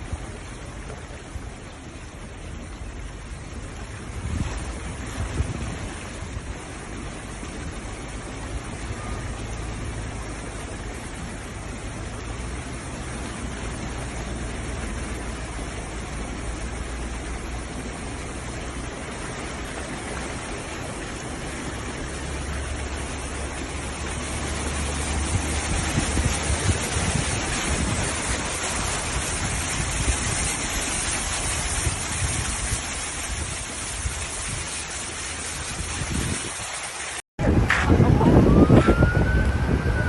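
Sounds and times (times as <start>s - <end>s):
flowing floodwater: 0.0s - 40.0s
heavy rain: 0.0s - 40.0s.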